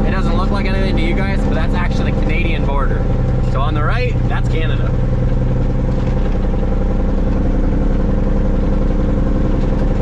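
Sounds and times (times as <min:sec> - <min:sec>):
diesel truck engine from inside cab: 0:00.0 - 0:10.0.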